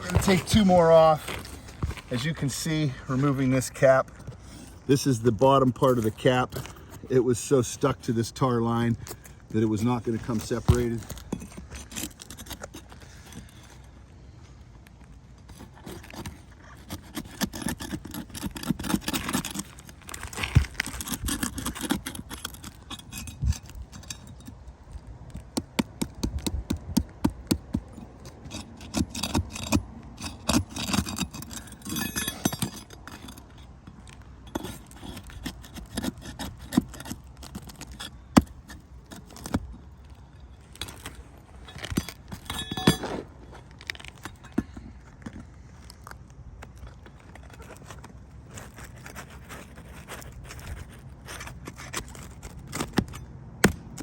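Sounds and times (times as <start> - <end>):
hand tools scraping shingles: 0.0 - 14.0, 15.4 - 54.0.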